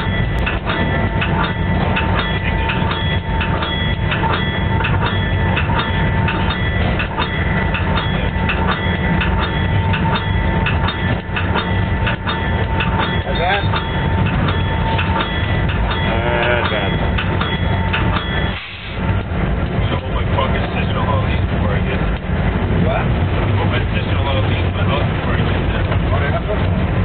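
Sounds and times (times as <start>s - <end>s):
locomotive bell ringing: 0.0s - 22.0s
diesel locomotive rumble: 0.0s - 27.0s
train wheels on rails: 0.0s - 27.0s.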